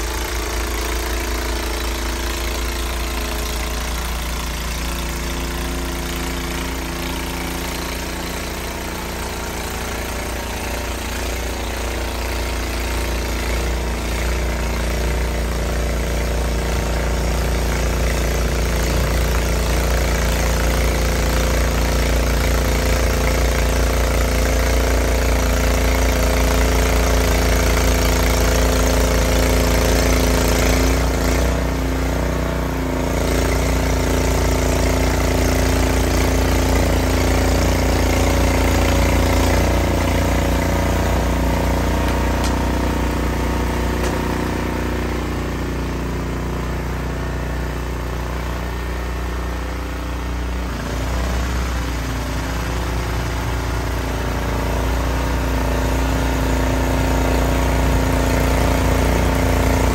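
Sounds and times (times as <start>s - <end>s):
snowblower running: 0.0s - 59.9s.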